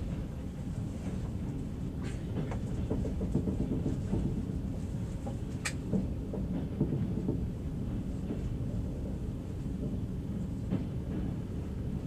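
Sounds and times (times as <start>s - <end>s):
train carriage rumbling on track: 0.0s - 12.0s.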